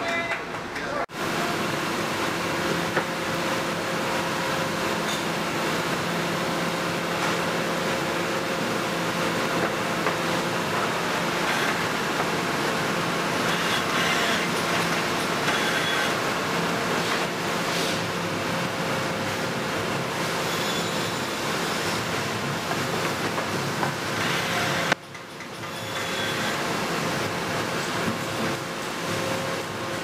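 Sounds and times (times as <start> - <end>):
factory machinery hum: 0.0 - 30.0.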